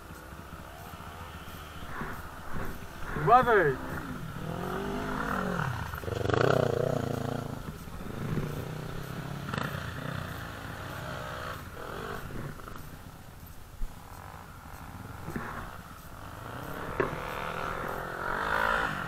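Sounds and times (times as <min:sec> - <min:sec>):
quad bike engine revving: 0:00.0 - 0:19.0.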